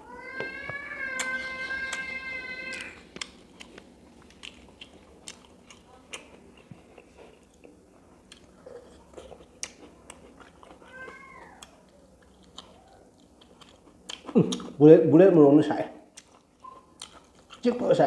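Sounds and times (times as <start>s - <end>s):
faint close-up chewing: 1.1s - 14.8s, 16.1s - 18.0s.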